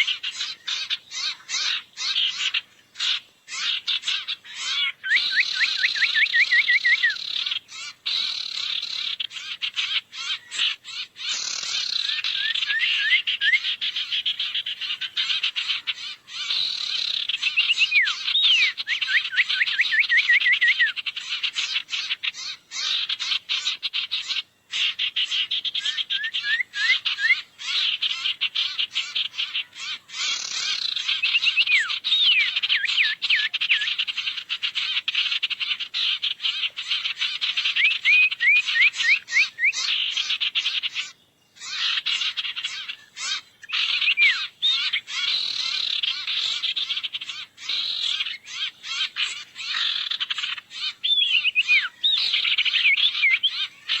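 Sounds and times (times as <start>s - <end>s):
bird calls chattering and whistling: 0.0s - 54.0s.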